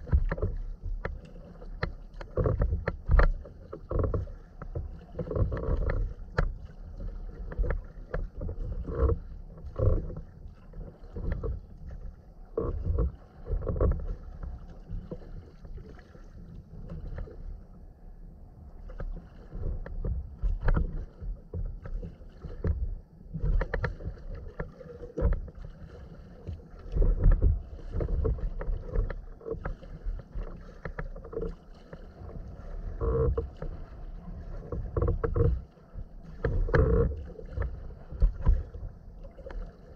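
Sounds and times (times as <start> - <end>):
water splashing against kayak hull: 0.0 - 39.9
wind rumbling on microphone: 0.0 - 39.9.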